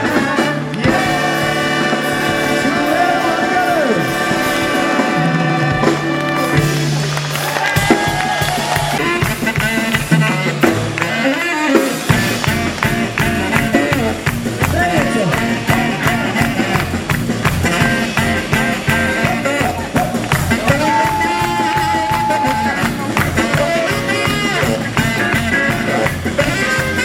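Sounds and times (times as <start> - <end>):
bass guitar notes: 0.0 - 27.0
drum strokes: 0.0 - 27.0.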